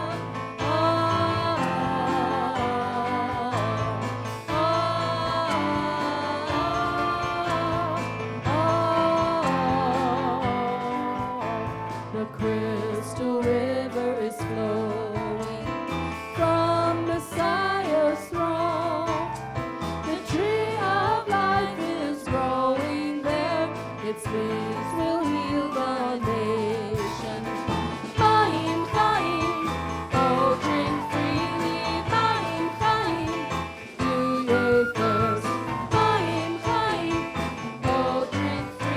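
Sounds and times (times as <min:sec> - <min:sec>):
instrumental accompaniment with beat: 0:00.0 - 0:38.9
person singing with vibrato: 0:00.0 - 0:38.9.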